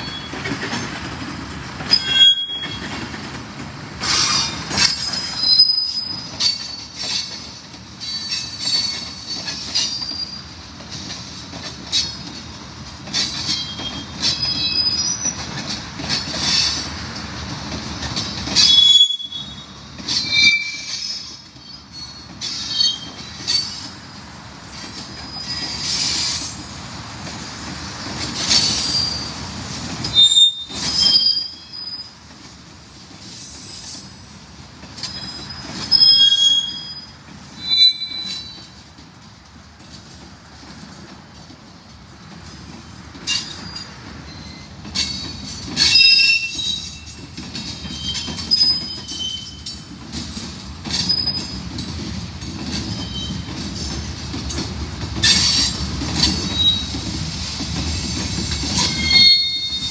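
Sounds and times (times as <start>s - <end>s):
wheels squealing on rails: 0.0s - 27.4s, 28.0s - 32.5s, 33.1s - 39.1s, 42.4s - 59.9s
freight cars rumbling: 0.0s - 59.9s.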